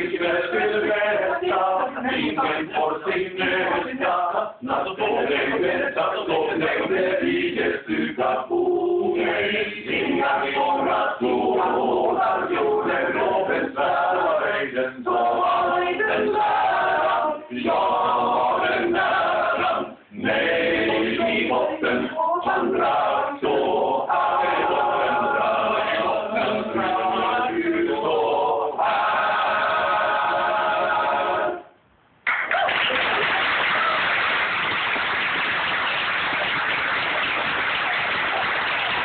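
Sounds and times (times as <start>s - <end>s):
men's choir singing: 0.0s - 31.6s.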